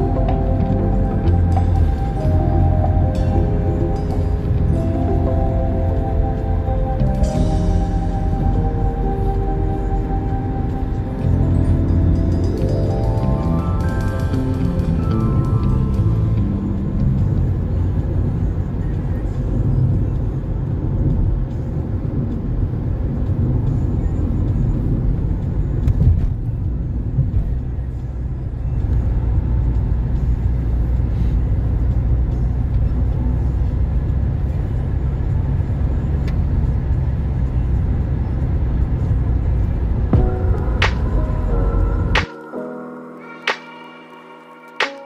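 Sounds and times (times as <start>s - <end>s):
vehicle rumble from inside: 0.0s - 42.2s.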